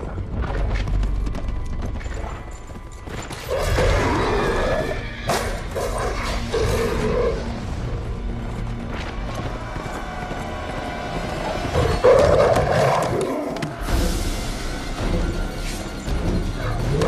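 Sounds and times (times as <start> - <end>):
film music: 0.0 - 17.0.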